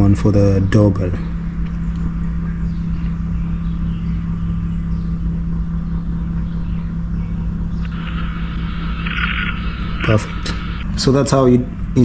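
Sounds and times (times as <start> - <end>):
constant low hum: 0.0 - 12.0
low rumble: 1.1 - 12.0.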